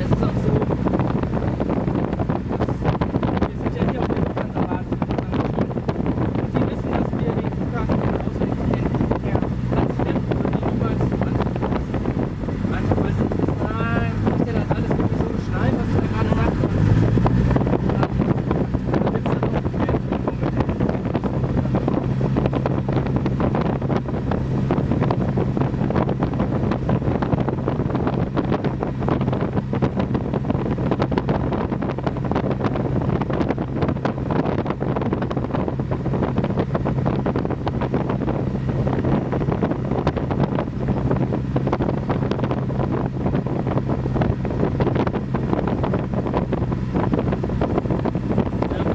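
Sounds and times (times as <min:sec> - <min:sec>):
propeller plane engine droning: 0:00.0 - 0:48.9
rushing airflow noise: 0:00.0 - 0:48.9.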